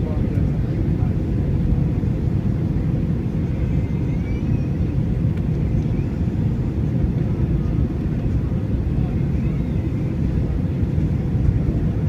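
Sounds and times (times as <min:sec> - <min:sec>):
aircraft engines rumbling: 0:00.0 - 0:12.0.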